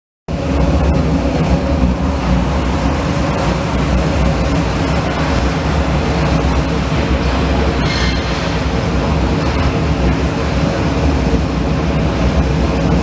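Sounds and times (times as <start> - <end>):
machine hum: 0.3 - 13.0.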